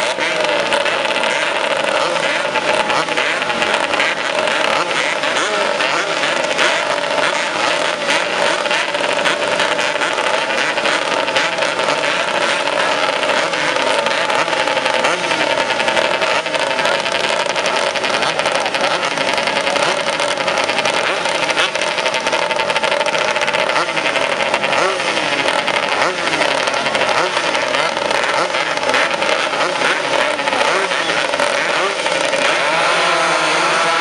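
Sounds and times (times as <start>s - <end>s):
two-stroke motorcycle engines droning: 0.0s - 34.0s.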